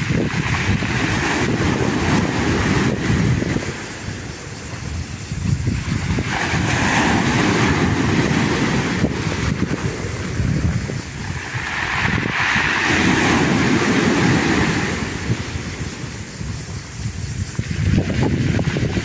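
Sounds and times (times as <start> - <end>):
waves breaking on shore: 0.0 - 19.0.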